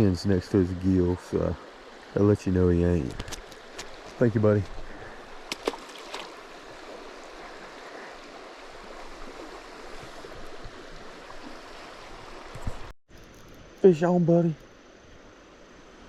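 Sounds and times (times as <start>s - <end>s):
river water running: 0.0s - 12.9s.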